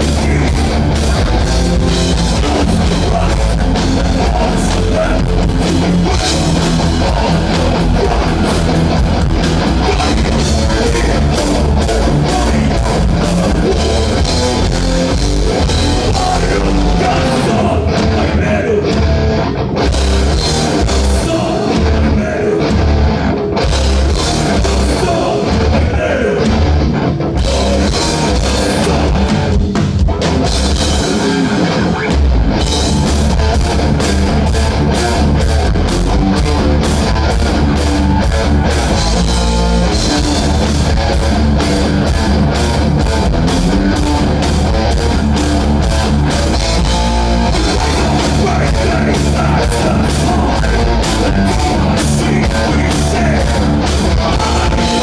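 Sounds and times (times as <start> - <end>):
bass guitar: 0.0 - 55.0
distorted electric guitars: 0.0 - 55.0
drum kit: 0.0 - 55.0
heavy metal band playing live: 0.0 - 55.0.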